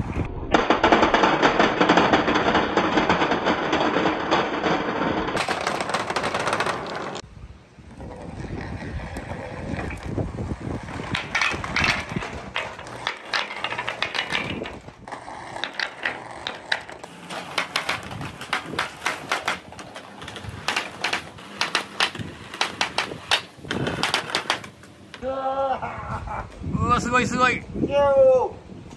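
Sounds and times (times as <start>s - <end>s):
balls rolling down a pipe: 0.4s - 25.2s.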